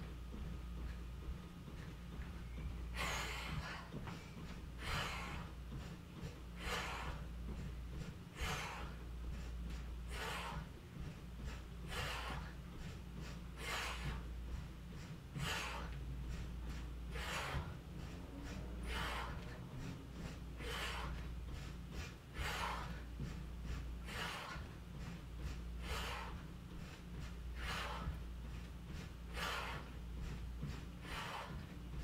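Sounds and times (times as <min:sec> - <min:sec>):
steady low hum: 0:00.0 - 0:32.0
person breathing hard: 0:00.4 - 0:32.0.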